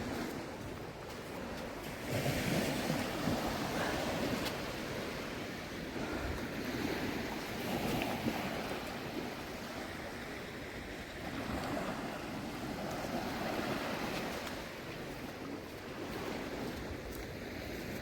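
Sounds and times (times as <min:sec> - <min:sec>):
water lapping: 0:00.0 - 0:18.0
wind rumble on microphone: 0:00.0 - 0:18.0.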